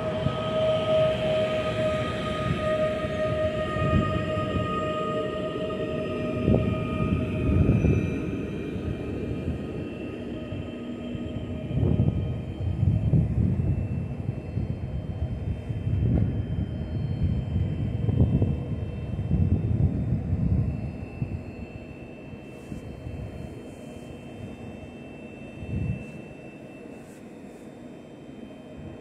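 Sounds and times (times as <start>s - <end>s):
high electrical whine: 0.0s - 29.0s
train low rumble: 0.0s - 29.0s.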